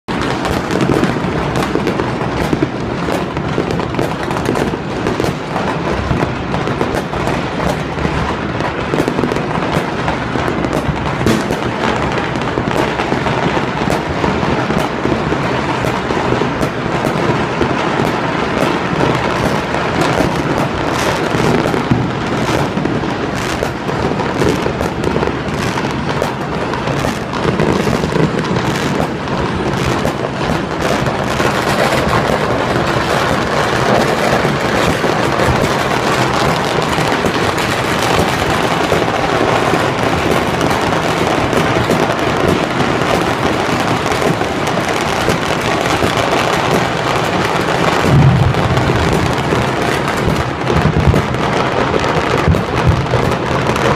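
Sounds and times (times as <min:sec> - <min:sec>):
fireworks and firecrackers bangs: 0:00.1 - 0:53.9.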